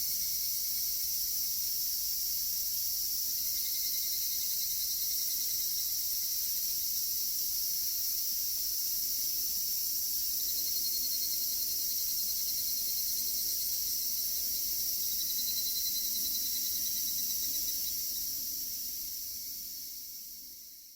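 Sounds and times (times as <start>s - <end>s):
cicadas chorus: 0.0s - 20.9s
evening cicada pulsing trill: 0.0s - 20.9s.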